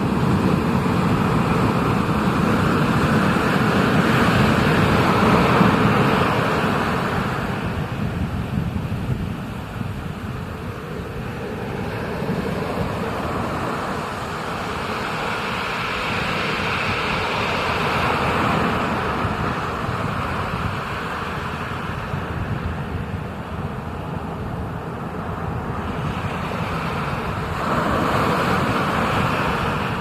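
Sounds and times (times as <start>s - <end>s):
ocean surf: 0.0s - 30.0s
wind rushing over microphone: 0.0s - 30.0s.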